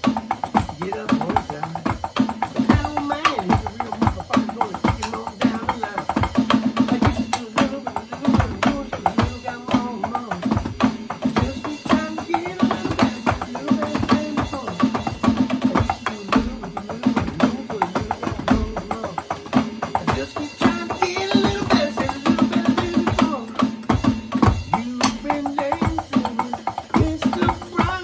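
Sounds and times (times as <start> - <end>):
electronic drum kit beats: 0.0 - 28.0
music: 0.0 - 28.0.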